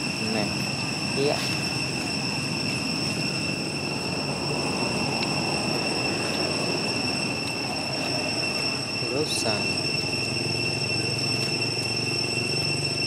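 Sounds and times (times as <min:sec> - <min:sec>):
high-pitched insect drone: 0:00.0 - 0:13.0
low rumbling noise: 0:00.0 - 0:13.0.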